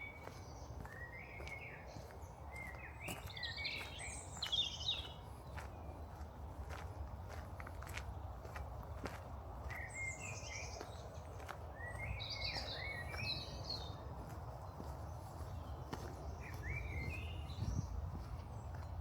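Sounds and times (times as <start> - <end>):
songbird chirps and trills: 0.0 - 19.0.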